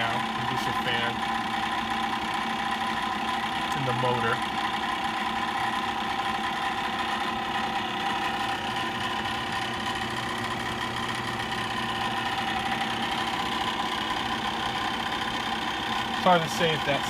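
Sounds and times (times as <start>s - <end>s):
furnace fan motor running: 0.0s - 17.0s.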